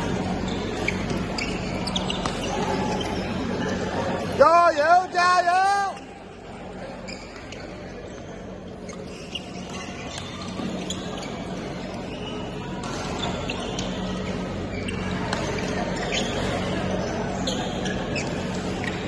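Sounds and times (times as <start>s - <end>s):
sports hall background noise: 0.0s - 19.0s.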